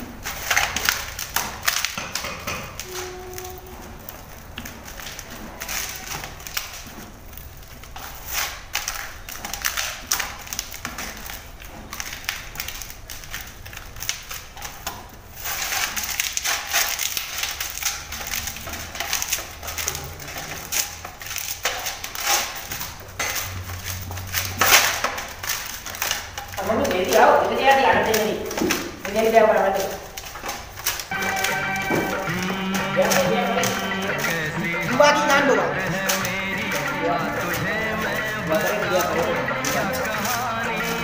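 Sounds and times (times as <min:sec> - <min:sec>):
hands kneading dough on metal: 0:00.0 - 0:41.0.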